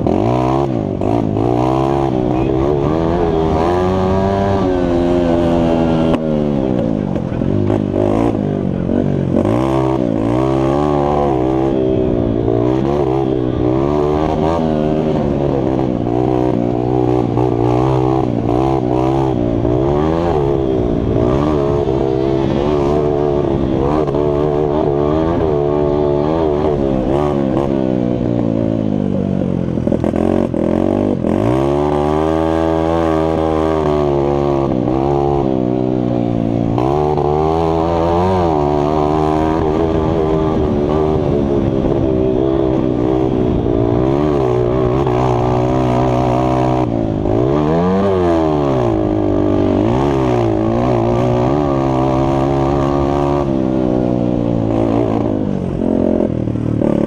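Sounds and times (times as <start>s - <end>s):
mini bike engine revving: 0.0s - 57.0s.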